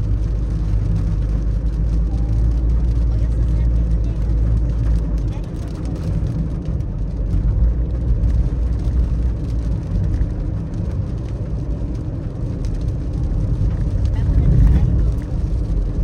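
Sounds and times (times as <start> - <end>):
faint rain ticks: 0.0 - 16.0
road and tyre rumble: 0.0 - 16.0.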